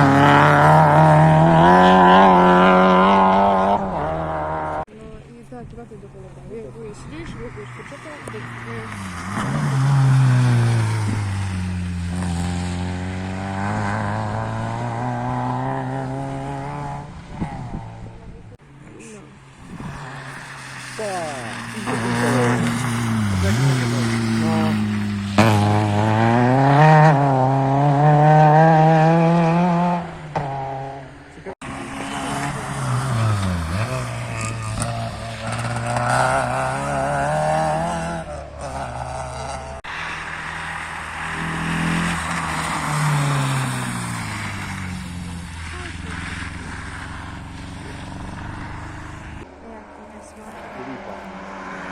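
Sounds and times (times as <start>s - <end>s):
rally car engine passing: 0.0s - 51.9s.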